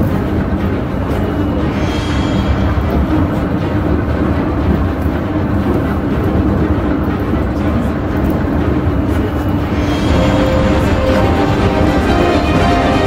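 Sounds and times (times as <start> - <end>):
constant hum: 0.0 - 13.0
wheels rumbling on rails: 0.0 - 13.0.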